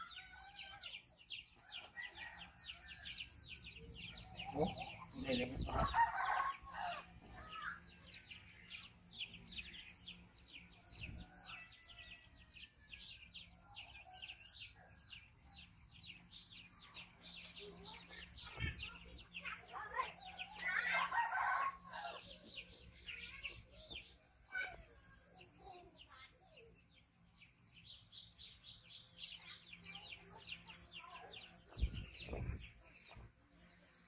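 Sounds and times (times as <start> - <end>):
chickens chirping: 0.0 - 34.0.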